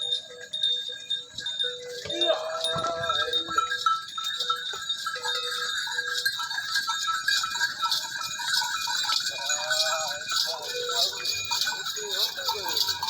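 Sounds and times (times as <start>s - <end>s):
livestock bells ringing: 0.0s - 13.0s.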